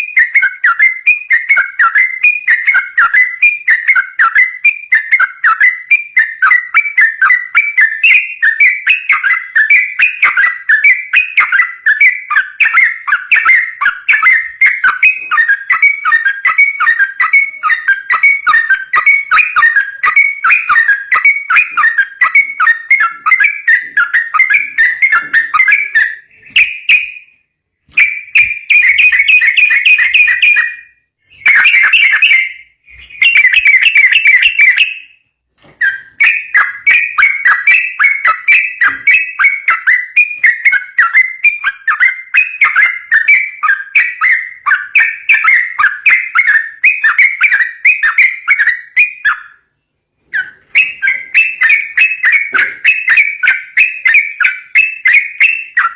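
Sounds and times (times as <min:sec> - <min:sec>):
bulbul singing whistled notes: 0:00.0 - 0:55.9.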